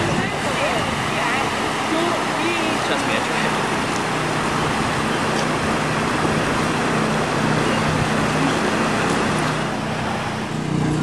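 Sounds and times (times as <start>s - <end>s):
floodwater rushing over street: 0.0s - 11.0s.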